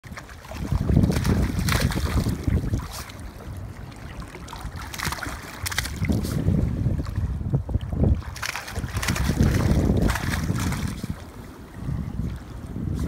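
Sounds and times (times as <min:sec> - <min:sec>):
water splashing: 0:00.0 - 0:12.4
wind buffeting microphone: 0:00.0 - 0:13.0.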